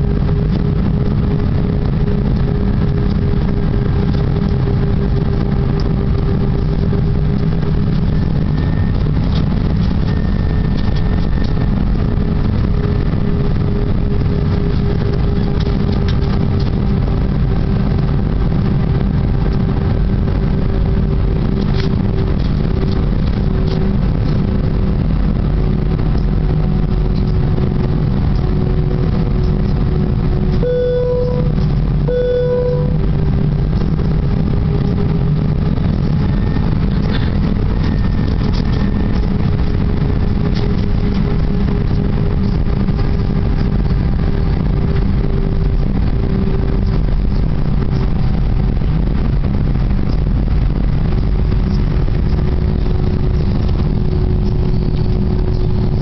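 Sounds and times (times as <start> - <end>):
airliner engine rumble: 0.0 - 56.0
faint constant hum: 0.0 - 56.0
loud buzzing tone: 0.0 - 56.0.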